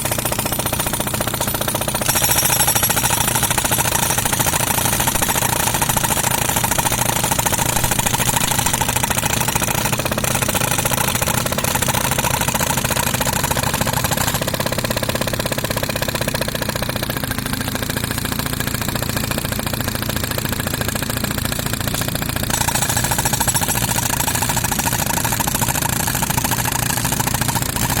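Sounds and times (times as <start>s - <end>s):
pneumatic concrete breaker hammering: 0.0s - 28.0s.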